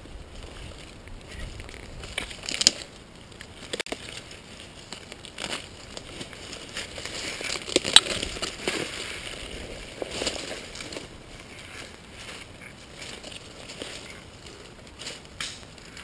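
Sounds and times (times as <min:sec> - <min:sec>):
twigs and leaves crackling: 0:00.0 - 0:16.0.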